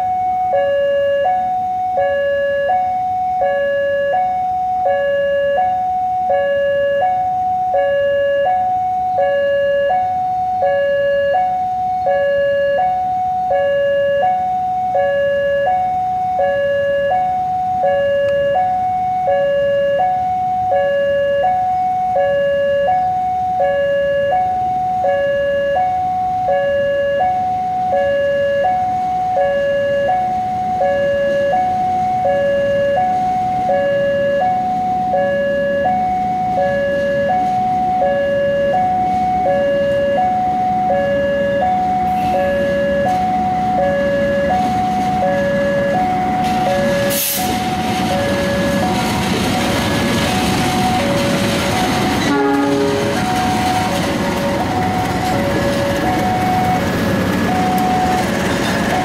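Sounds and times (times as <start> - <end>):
level crossing two-tone alarm: 0.0 - 59.0.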